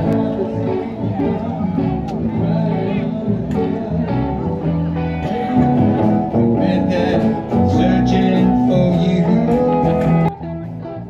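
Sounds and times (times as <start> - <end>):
acoustic guitars: 0.0 - 11.0
bass guitar: 0.0 - 11.0.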